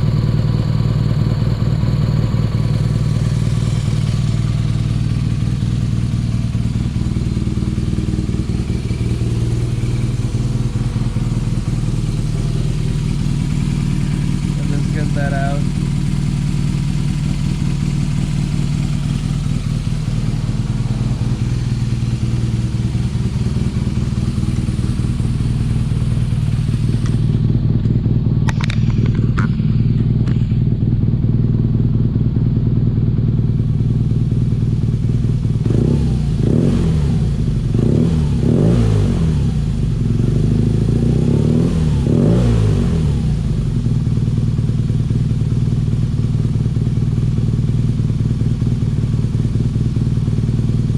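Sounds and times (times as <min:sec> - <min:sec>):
motorcycle engine idling and revving: 0:00.0 - 0:50.9.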